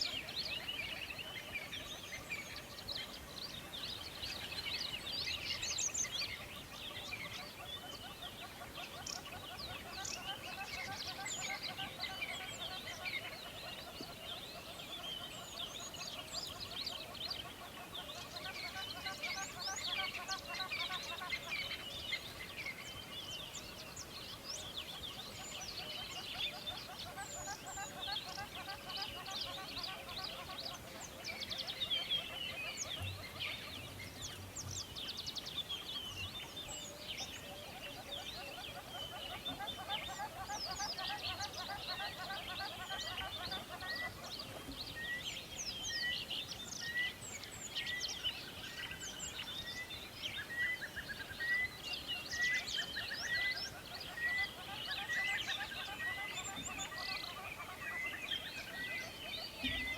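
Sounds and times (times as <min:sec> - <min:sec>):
rapid repeated bird chatter: 0:00.0 - 0:59.9
songbirds chirping and whistling: 0:00.0 - 0:59.9.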